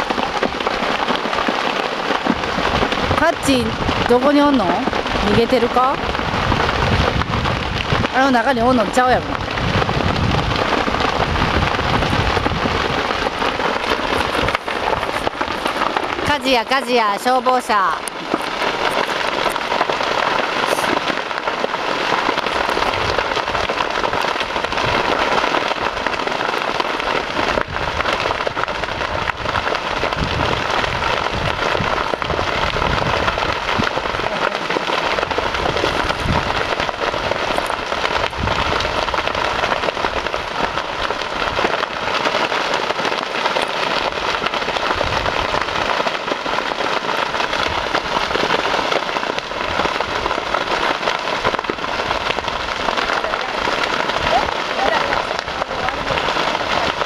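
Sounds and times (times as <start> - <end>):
brush fire crackling and popping: 0.0 - 57.0.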